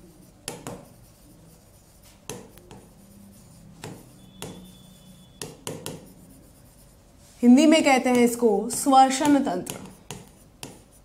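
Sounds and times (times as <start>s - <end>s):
marker pen writing on whiteboard: 0.0s - 11.0s.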